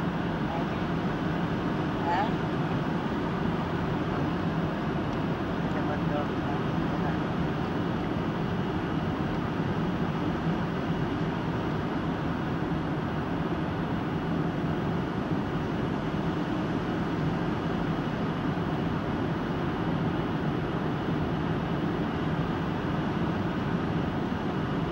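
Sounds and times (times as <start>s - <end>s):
jet engines and airflow rushing: 0.0s - 24.9s.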